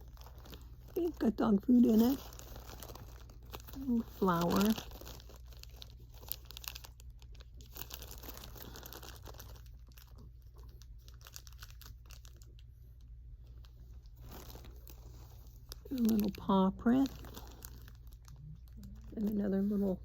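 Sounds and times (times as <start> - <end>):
packaging crinkling: 0.0 - 20.0.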